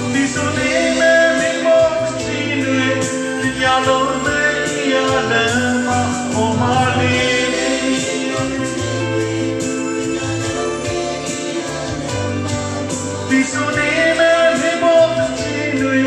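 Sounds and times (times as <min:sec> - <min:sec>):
instrumental backing music: 0:00.0 - 0:16.0
man singing into a microphone: 0:00.0 - 0:16.0.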